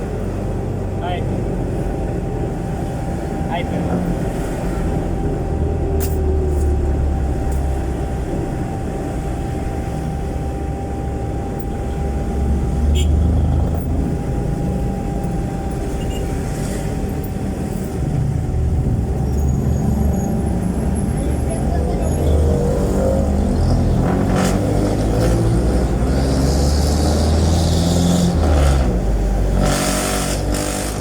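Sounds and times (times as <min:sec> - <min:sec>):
diesel engine with loud exhaust: 0:00.0 - 0:31.0.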